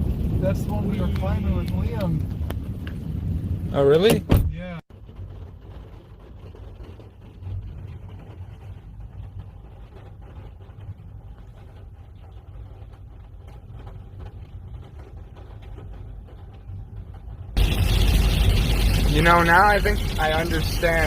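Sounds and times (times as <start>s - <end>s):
low rumble inside car: 0.0s - 21.0s.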